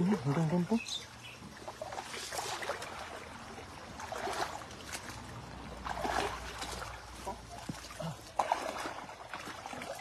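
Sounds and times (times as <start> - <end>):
loud water splashes: 0.0 - 10.0
stream water trickling: 0.0 - 10.0.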